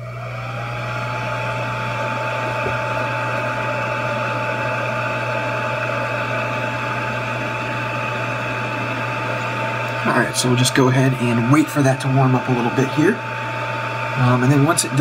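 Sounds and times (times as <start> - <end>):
blower whine and air rush: 0.0 - 15.0.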